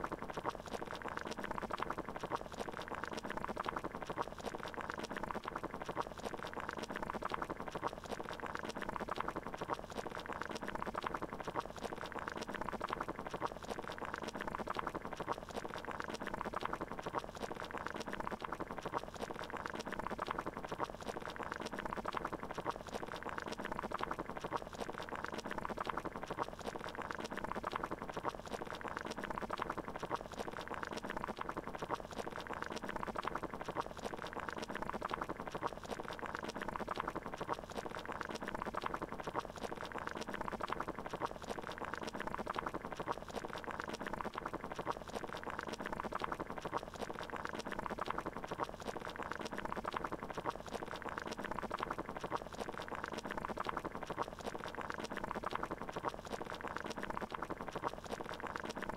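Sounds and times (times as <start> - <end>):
water boiling: 0.0 - 58.9.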